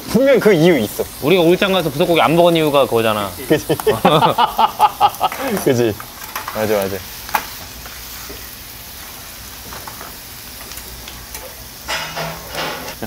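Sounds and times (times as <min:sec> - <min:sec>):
meat sizzling on a griddle: 0:00.0 - 0:13.0.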